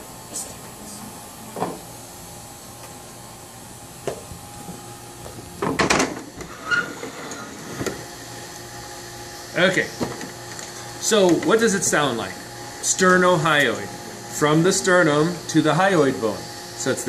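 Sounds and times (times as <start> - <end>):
room hum: 0.0 - 17.0.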